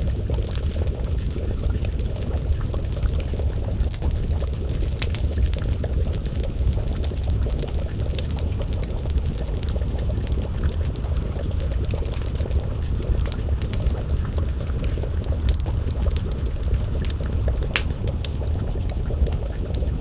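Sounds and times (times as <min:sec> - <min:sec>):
stew bubbling in pot: 0:00.0 - 0:20.0
wood fire crackling: 0:00.0 - 0:20.0.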